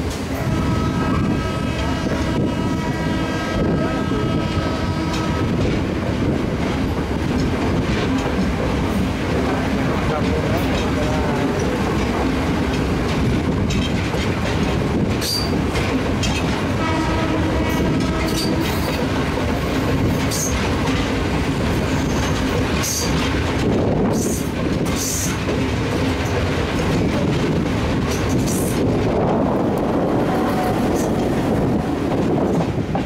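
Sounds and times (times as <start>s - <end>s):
train wheels clattering: 3.6s - 33.0s.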